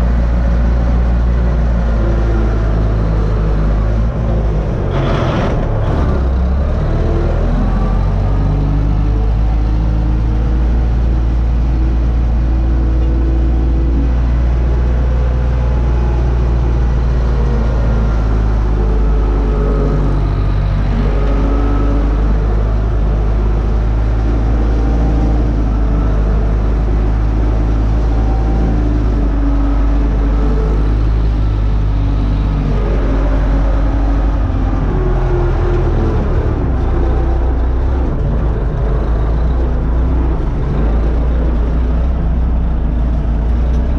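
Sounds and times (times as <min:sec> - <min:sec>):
tractor diesel engine droning: 0:00.0 - 0:43.9.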